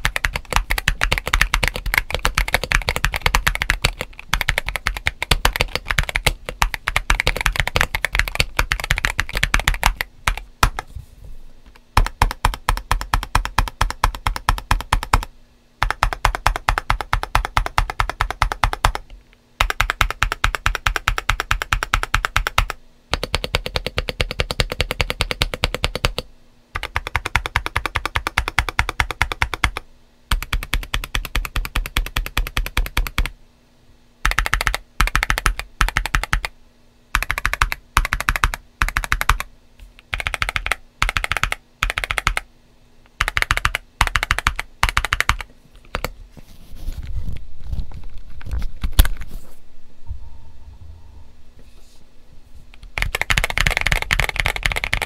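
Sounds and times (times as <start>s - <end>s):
mechanical keyboard typing: 0.0s - 10.9s, 11.9s - 33.4s, 34.2s - 36.5s, 37.1s - 42.5s, 43.1s - 46.1s, 52.8s - 55.0s.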